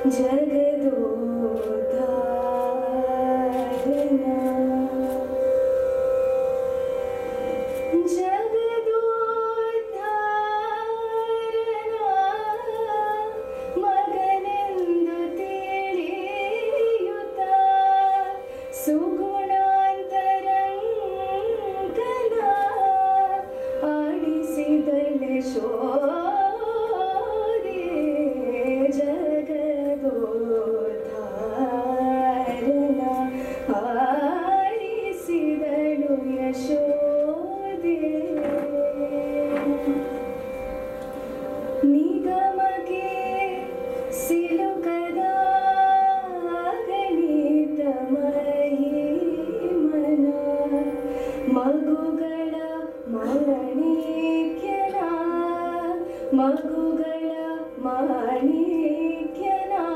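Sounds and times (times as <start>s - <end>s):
woman singing: 0.0s - 5.6s, 7.9s - 40.3s, 41.8s - 59.9s.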